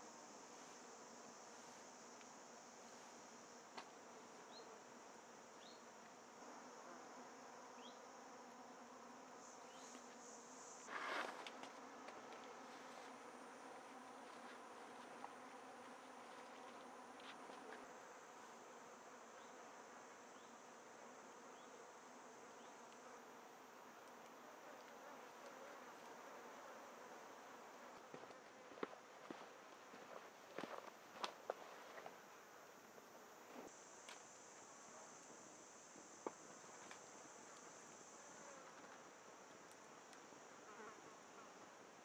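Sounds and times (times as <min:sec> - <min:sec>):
high-pitched insect hiss: 0:00.0 - 0:13.6, 0:16.0 - 0:41.4
buzzing of flying insects: 0:00.0 - 0:42.0.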